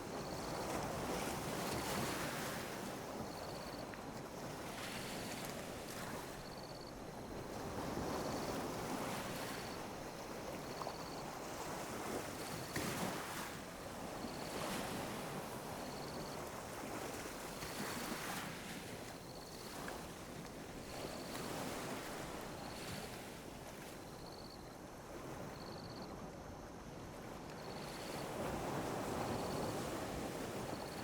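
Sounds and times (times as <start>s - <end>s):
small waves lapping on beach: 0.0s - 31.0s.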